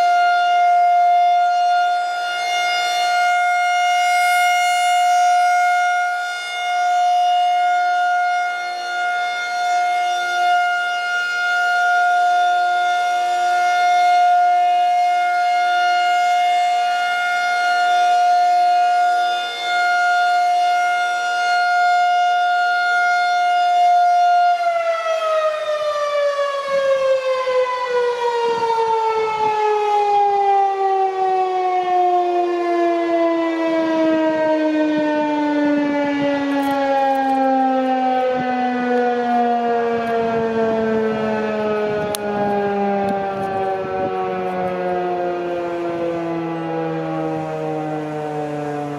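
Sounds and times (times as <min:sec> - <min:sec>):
electromechanical siren winding down: 0:00.0 - 0:48.9.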